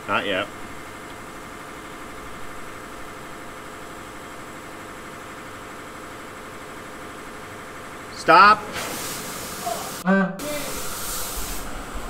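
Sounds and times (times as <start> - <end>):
fuel pump mechanical drone: 0.0 - 12.0.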